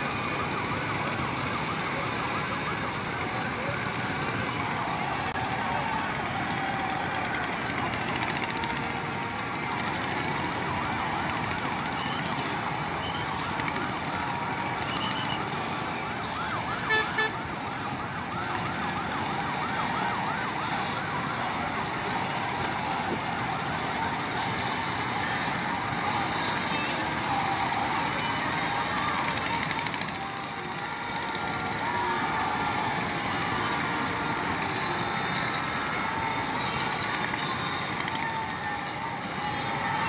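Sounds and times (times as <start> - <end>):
large crowd din: 0.0 - 40.0
siren-like wail: 0.0 - 40.0.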